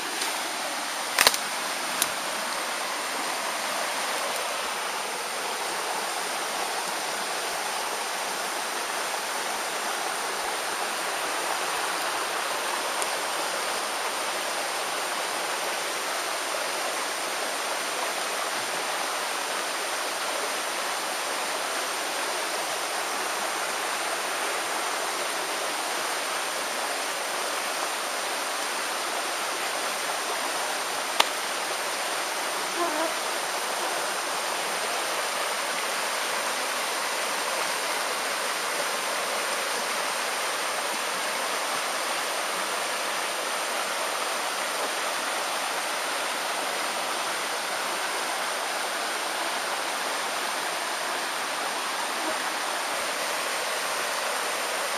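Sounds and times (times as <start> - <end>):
creek rushing over stones: 0.0 - 54.9.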